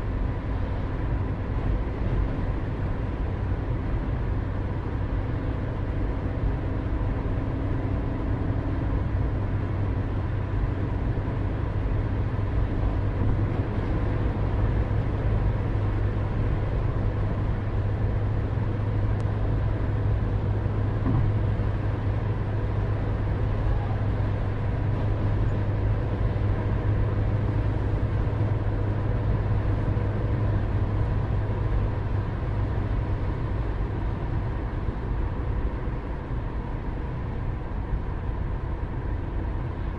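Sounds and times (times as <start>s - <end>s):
low outdoor rumble: 0.0s - 39.9s.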